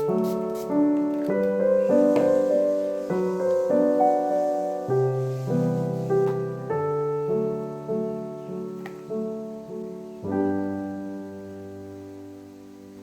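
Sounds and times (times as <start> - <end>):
gentle piano chords: 0.0 - 13.0.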